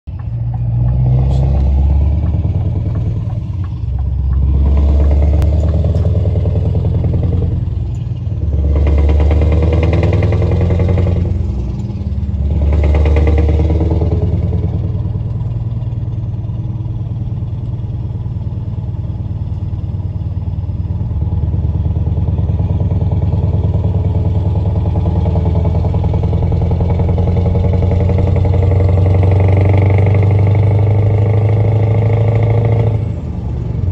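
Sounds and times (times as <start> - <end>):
diesel truck engine revving and idling: 0.1 - 33.9.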